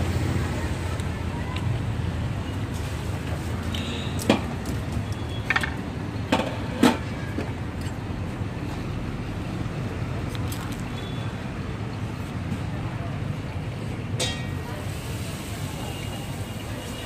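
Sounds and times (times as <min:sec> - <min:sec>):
traffic hum: 0:00.0 - 0:17.0.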